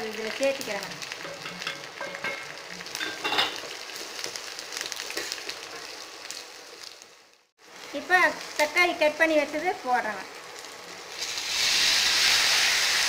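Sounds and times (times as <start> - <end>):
food frying and crackling in oil: 0.0 - 13.0.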